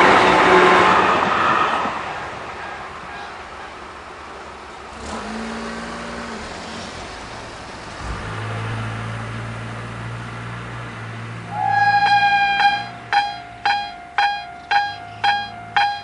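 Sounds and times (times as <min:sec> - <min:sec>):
vehicle engine humming: 0:02.2 - 0:16.0.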